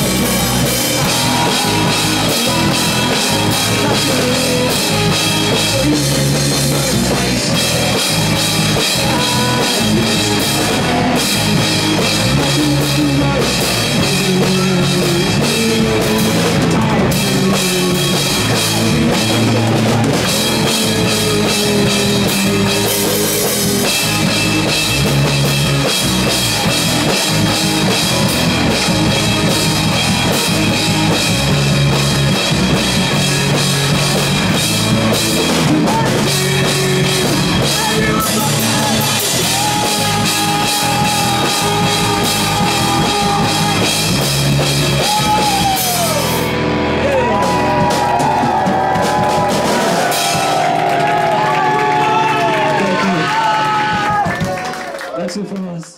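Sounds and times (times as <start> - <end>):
live rock band playing: 0.0 - 54.8.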